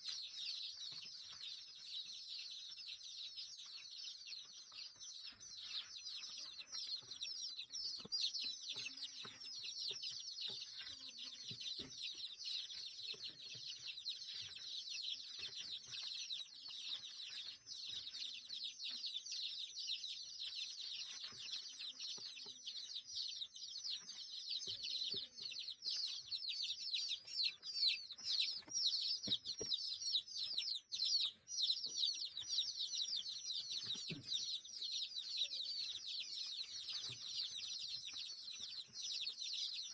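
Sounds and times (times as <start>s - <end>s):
small birds cheeping: 0.0s - 39.9s.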